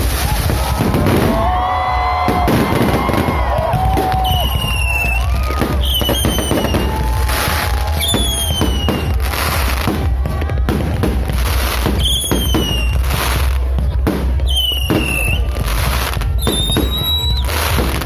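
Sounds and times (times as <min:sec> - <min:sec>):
fireworks popping and banging: 0:00.0 - 0:18.0
fireworks whistling: 0:02.2 - 0:18.0.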